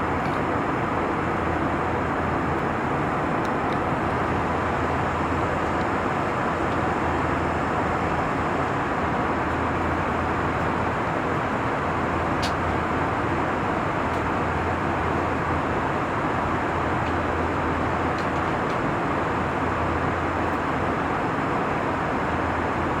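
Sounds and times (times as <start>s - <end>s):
airplane cabin roar: 0.0s - 23.0s.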